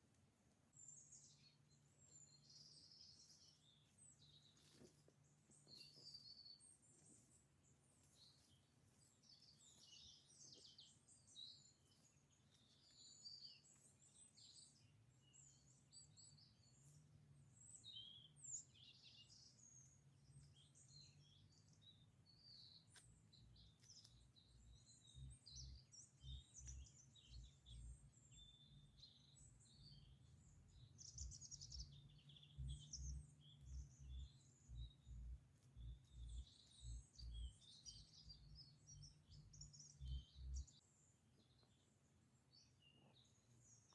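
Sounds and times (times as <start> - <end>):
faint low hum: 0.0 - 43.9
small birds chirping and singing: 0.0 - 43.9.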